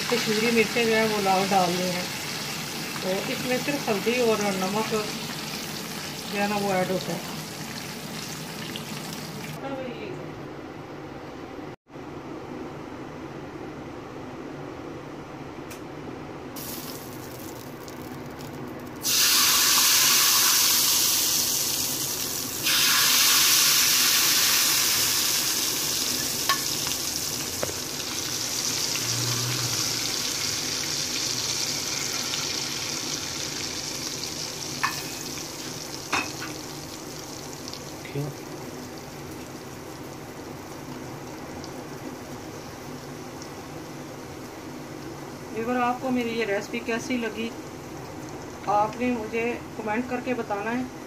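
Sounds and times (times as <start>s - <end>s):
hot oil sizzling: 0.0s - 9.6s, 16.6s - 50.8s.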